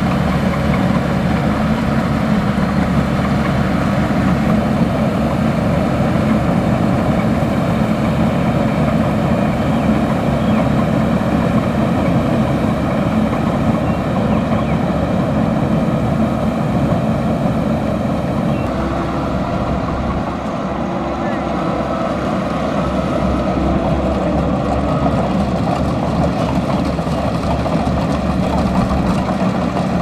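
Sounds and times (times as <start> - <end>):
combine harvester engine running: 0.0 - 30.0.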